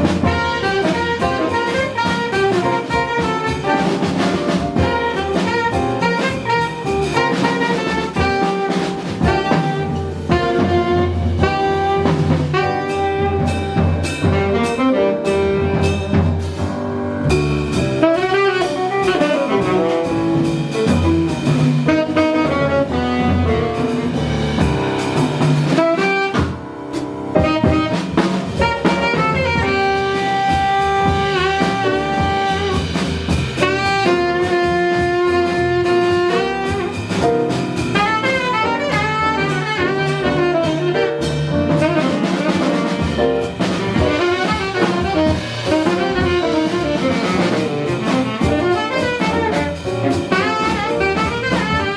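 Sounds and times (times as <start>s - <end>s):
saxophone lead: 0.0s - 16.7s, 17.3s - 51.9s
double bass: 0.0s - 51.9s
drum kit: 0.0s - 51.9s.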